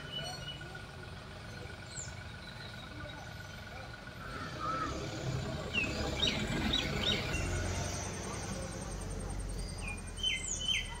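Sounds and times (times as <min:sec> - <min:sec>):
birds chirping: 0:00.0 - 0:11.0
low outdoor rumble: 0:00.0 - 0:11.0.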